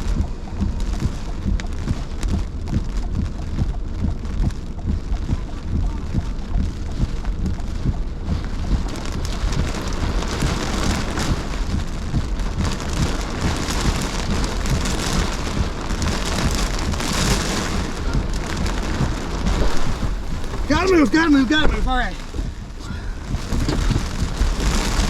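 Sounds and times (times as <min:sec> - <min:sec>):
constant low rumble: 0:00.0 - 0:25.0
heavy rain pelting down: 0:00.0 - 0:25.0.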